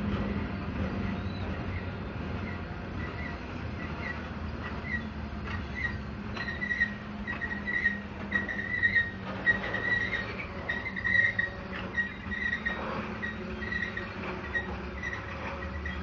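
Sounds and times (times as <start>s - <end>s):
steel wheels squealing: 0.0s - 16.0s
wheels clacking on rails: 0.0s - 16.0s.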